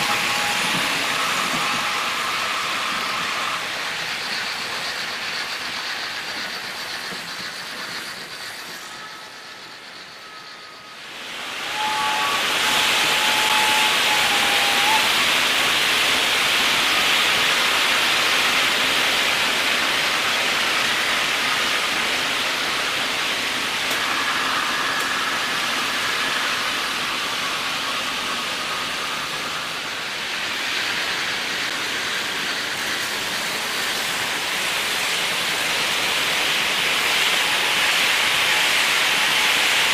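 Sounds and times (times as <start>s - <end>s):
model train running: 0.0s - 39.9s
steady hiss: 0.0s - 39.9s.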